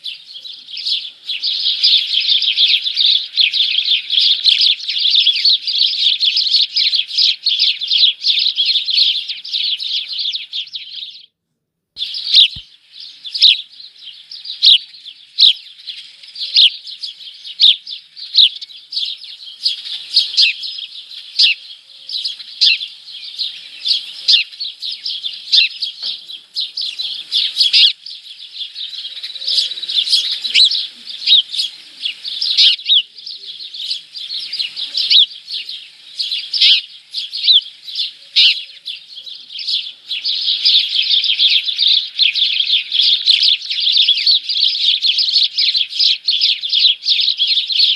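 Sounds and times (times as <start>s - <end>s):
small birds chirping: 0.0s - 11.4s, 12.0s - 47.9s.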